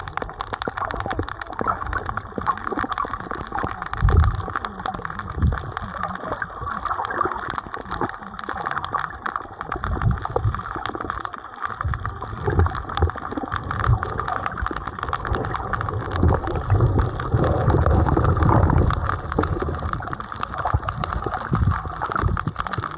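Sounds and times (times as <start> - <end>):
small clicks and crackles: 0.0 - 22.9
underwater gurgling and sloshing: 0.0 - 22.9.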